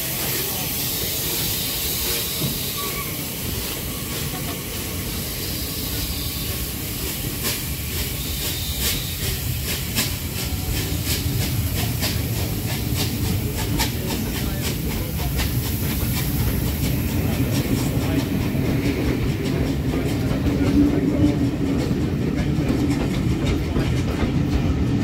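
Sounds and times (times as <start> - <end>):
hiss of steam: 0.0 - 21.8
steam locomotive passing: 0.0 - 25.0.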